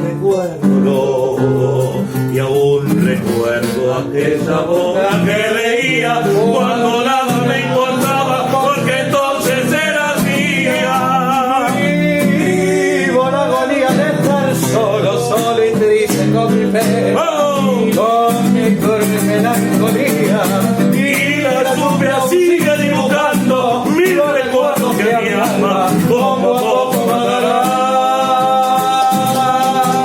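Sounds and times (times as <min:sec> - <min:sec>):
man singing: 0:00.0 - 0:30.0
plucked guitar: 0:00.0 - 0:30.0.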